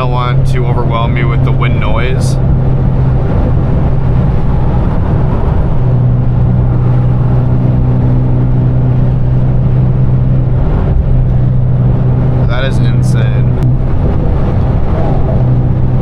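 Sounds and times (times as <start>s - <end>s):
car engine droning: 0.0s - 16.0s
wind noise: 0.0s - 16.0s.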